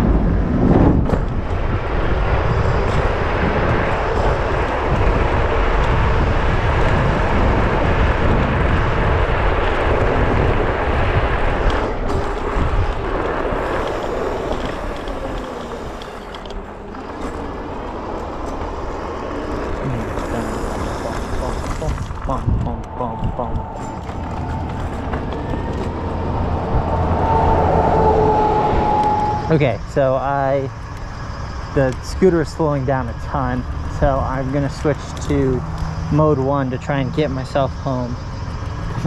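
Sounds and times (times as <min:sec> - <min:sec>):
tyre and road noise: 0:00.0 - 0:39.0
wind rush on microphone: 0:00.0 - 0:39.0.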